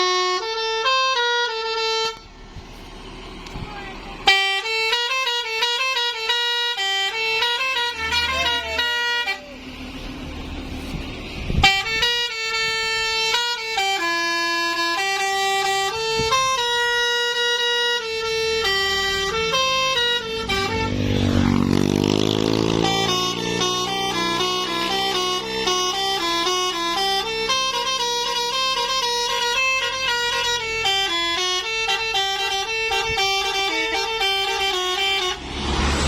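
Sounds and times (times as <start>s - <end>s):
musical air horn tune: 0.0s - 2.3s, 4.2s - 9.5s, 11.5s - 36.0s.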